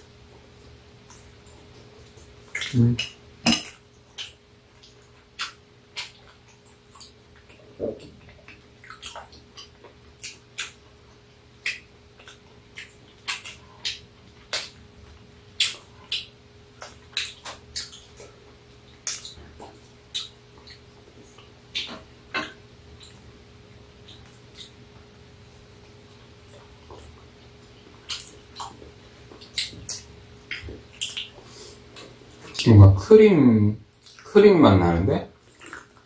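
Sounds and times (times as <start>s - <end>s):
faint steady hum: 0.0s - 36.0s
wet lip smacks and chewing: 1.0s - 23.2s, 24.0s - 25.1s, 25.8s - 32.7s, 33.9s - 34.3s, 35.4s - 36.0s.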